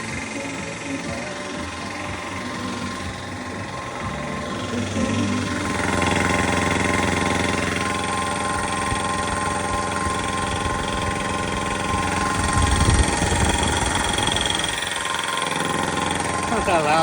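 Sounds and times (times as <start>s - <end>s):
air compressor droning: 0.0s - 17.0s.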